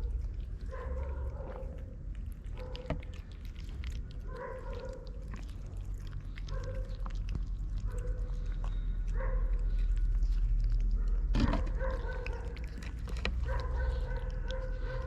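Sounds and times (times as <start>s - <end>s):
low rumble with small clicks: 0.0s - 15.0s.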